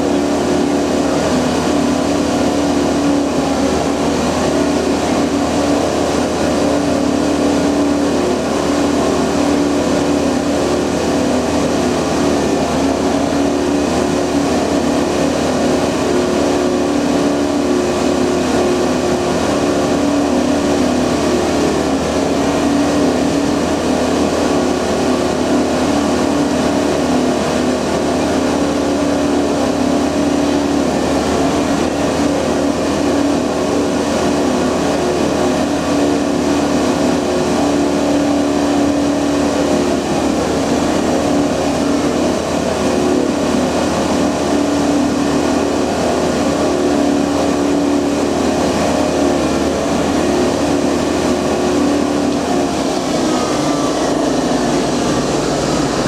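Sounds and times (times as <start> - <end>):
steady hum: 0.0 - 56.0
track tamping machine running: 0.0 - 56.0.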